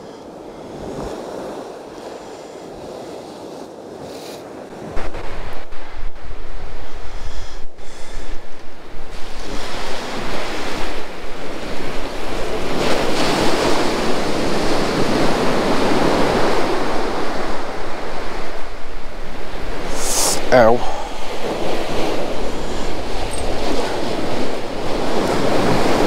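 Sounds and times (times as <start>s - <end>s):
sea surf breaking: 0.0s - 26.0s
wind buffeting microphone: 0.0s - 26.0s.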